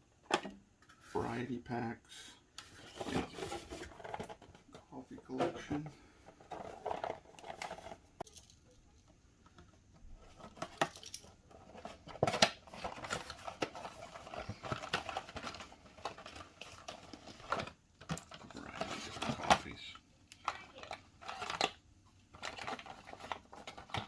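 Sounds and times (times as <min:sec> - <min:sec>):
plastic packaging handled: 0:02.6 - 0:08.7, 0:10.0 - 0:19.8, 0:20.4 - 0:24.0.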